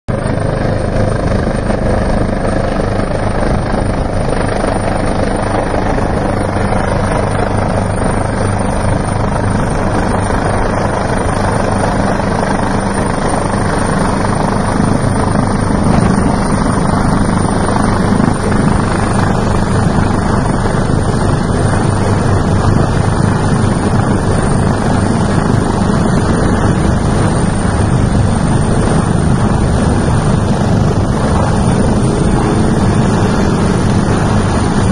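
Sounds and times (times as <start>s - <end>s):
helicopter hovering: 0.1s - 34.9s.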